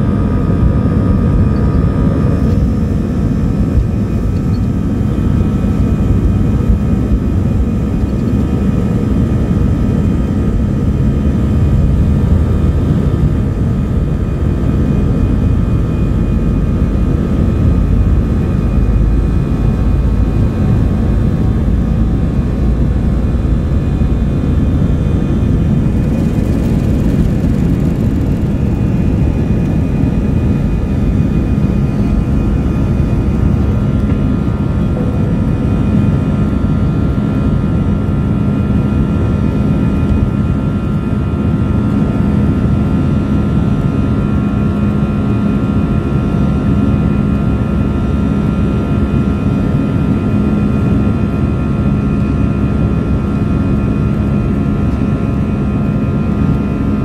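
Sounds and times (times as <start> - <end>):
jet engines roaring at takeoff: 0.0 - 57.0.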